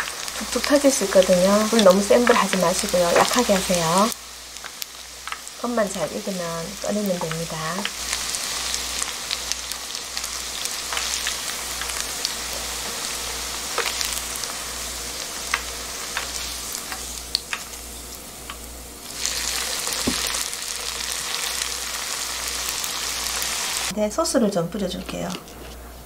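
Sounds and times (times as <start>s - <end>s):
oil crackling: 0.0s - 23.9s
oil sizzling: 0.0s - 24.1s.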